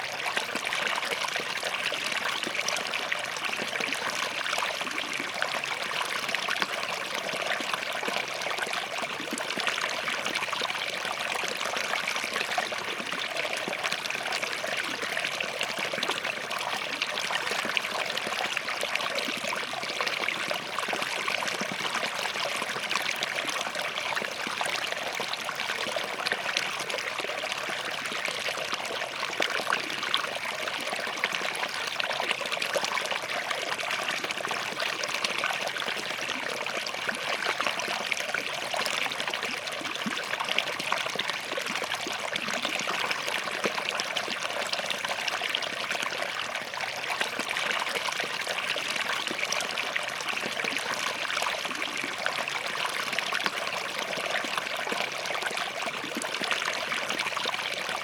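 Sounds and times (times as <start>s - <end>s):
stream trickling over rocks: 0.0s - 58.0s.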